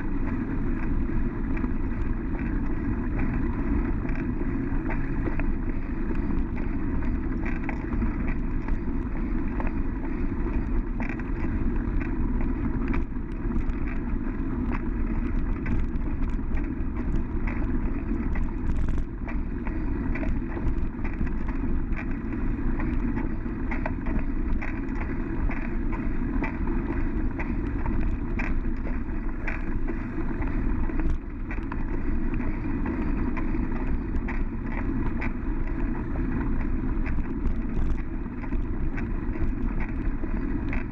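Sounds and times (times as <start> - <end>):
bicycle rattles and clicks: 0.0 - 40.9
tyres and wind rumbling: 0.0 - 40.9.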